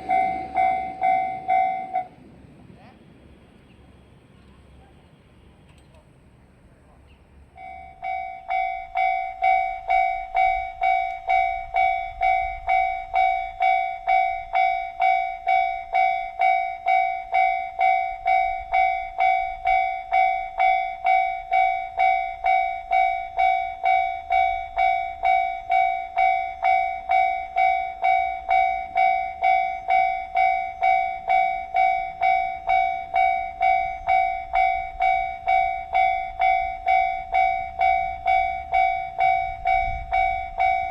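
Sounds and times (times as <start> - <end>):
level-crossing alarm bell: 0.0 - 2.2, 7.6 - 40.9.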